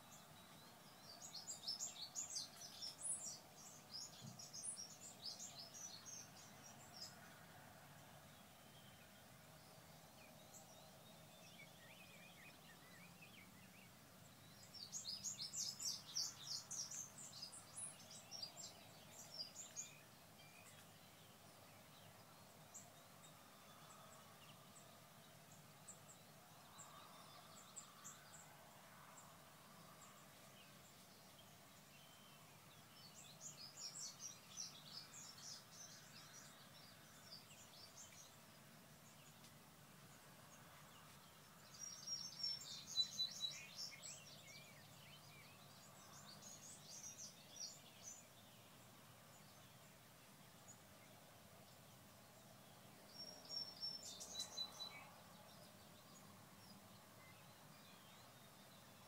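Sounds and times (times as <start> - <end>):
faint outdoor background noise: 0.0 - 59.0
songbird singing: 0.0 - 59.0.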